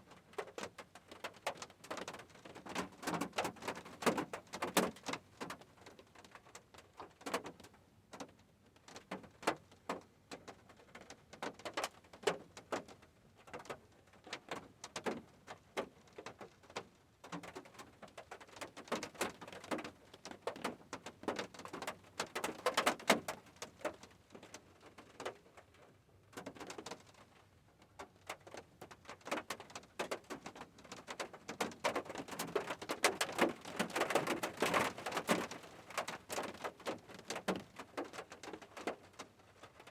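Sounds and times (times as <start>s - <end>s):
rain dripping on hard surface: 0.1s - 39.9s.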